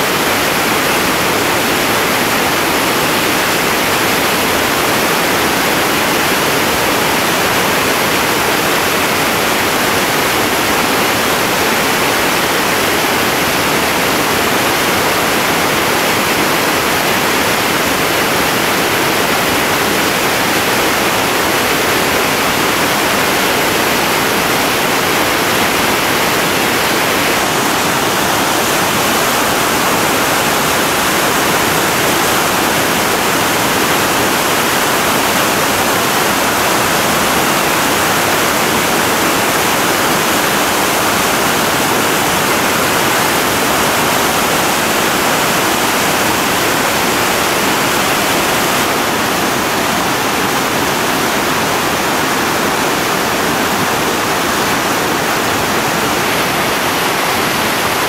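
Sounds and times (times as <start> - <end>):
river rapids rushing: 0.0 - 58.0.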